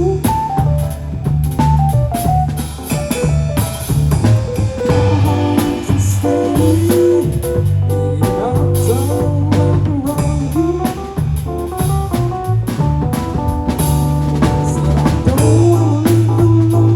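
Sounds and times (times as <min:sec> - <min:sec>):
live band playing: 0:00.0 - 0:16.9.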